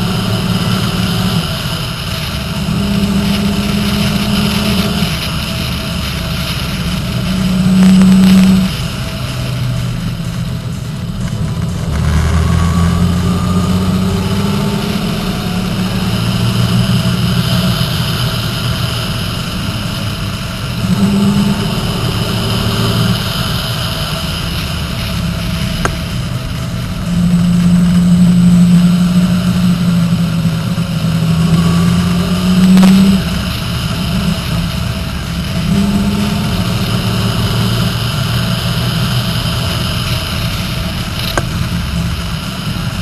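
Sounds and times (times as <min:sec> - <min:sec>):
motorcycle engine revving: 0:00.0 - 0:43.0
wind and road noise: 0:00.0 - 0:43.0.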